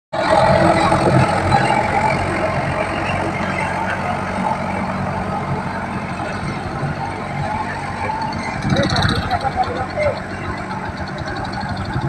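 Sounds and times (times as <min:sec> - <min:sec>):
machine engine humming: 0:00.2 - 0:12.0.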